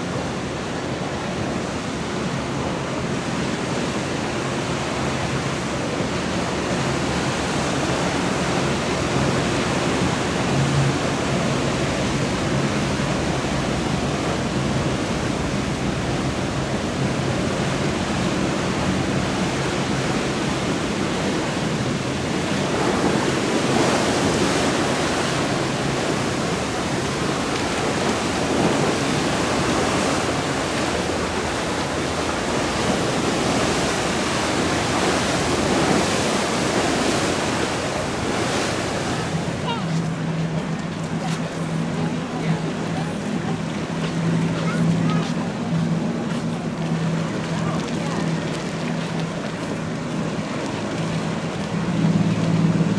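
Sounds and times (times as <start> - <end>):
low boat engine hum: 0.0 - 52.9
surf and churned water: 0.0 - 52.9.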